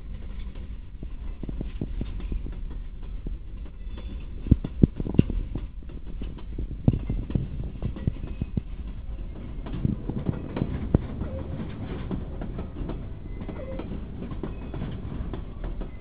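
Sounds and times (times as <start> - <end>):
train wagons rolling on rails: 0.0 - 16.0
wheels and couplings clanking: 0.0 - 16.0.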